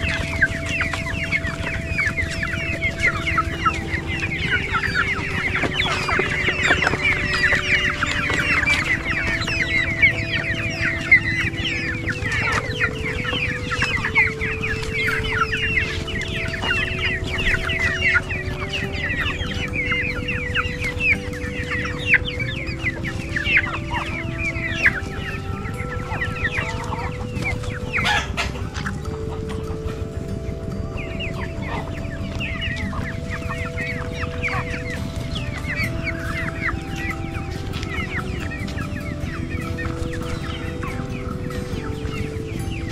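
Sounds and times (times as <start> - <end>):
background music of held notes: 0.0 - 42.9
chickens clucking and cheeping: 0.0 - 42.9.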